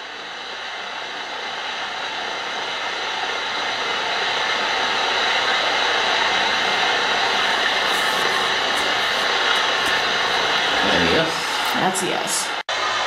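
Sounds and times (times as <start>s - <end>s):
radio static hiss: 0.0s - 12.7s.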